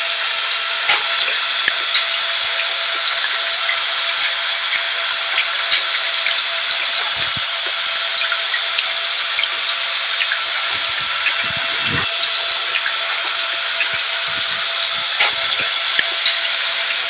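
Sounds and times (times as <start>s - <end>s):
vacuum cleaner motor whining: 0.9s - 17.0s.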